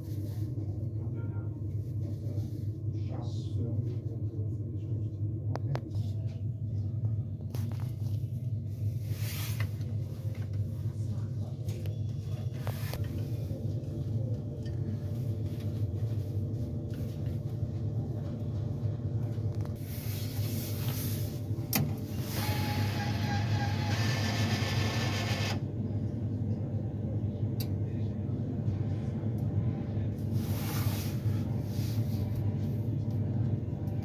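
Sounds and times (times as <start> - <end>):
vending machine humming: 6.7 - 34.0.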